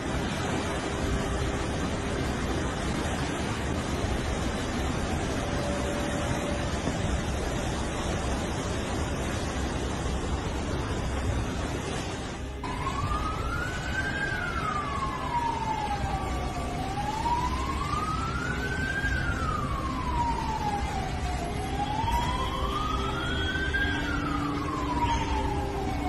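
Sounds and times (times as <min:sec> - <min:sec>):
siren wailing: 0:00.0 - 0:08.2, 0:12.6 - 0:26.0.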